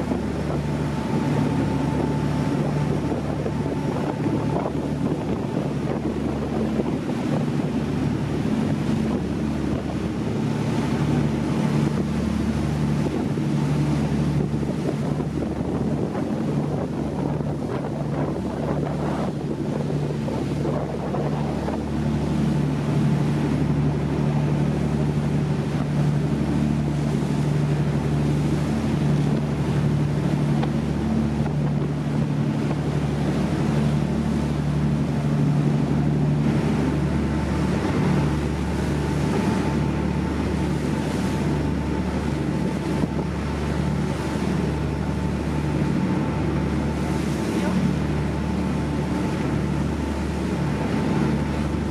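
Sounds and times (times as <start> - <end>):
boat motor droning: 0.0 - 51.9
water rushing past hull: 0.0 - 51.9
wind buffeting microphone: 0.0 - 51.9.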